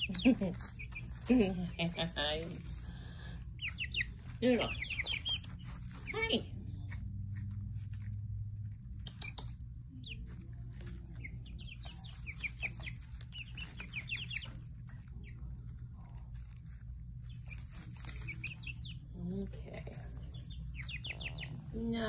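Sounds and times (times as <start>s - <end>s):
chicks peeping: 0.0s - 22.0s
steady low hum: 0.0s - 22.0s.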